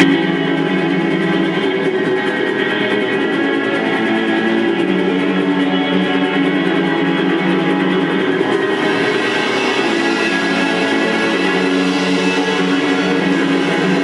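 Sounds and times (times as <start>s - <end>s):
guitar: 0.0s - 14.0s
live band playing: 0.0s - 14.0s.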